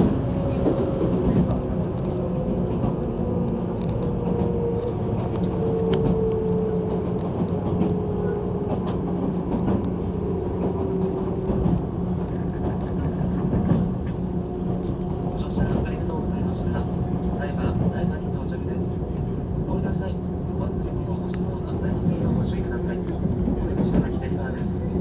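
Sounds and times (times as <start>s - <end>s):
electric train rumble and motor whine: 0.0s - 25.0s.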